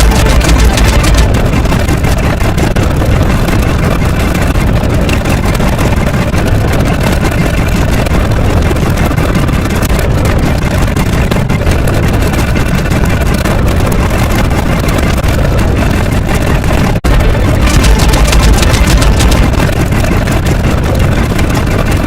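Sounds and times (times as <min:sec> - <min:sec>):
loud engine-like rumble: 0:00.0 - 0:22.0.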